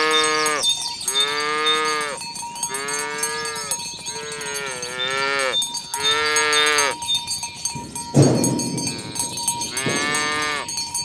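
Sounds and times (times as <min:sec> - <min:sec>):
cows mooing: 0:00.0 - 0:07.1, 0:08.1 - 0:10.8.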